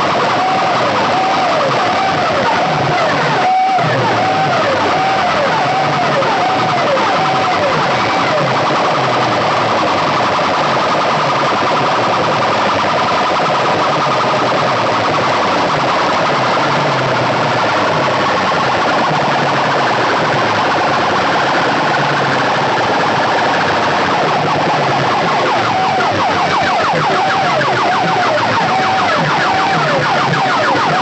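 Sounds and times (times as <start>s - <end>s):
loud distorted electronic siren sound: 0.0s - 31.0s.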